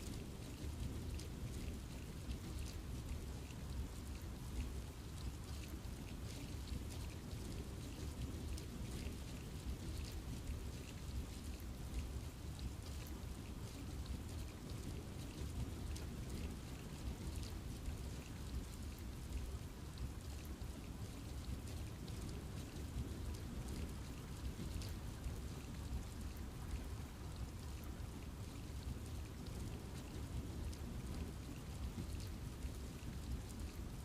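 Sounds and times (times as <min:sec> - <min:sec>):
rain falling in a forest: 0:00.0 - 0:34.0
raindrops pattering on leaves: 0:00.0 - 0:34.0.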